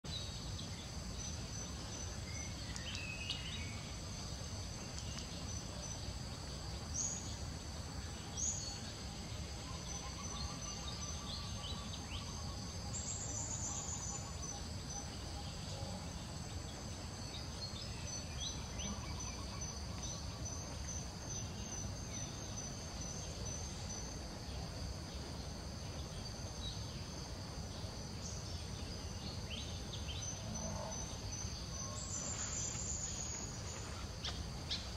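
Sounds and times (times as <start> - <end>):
insects chirring: 0.0 - 34.9.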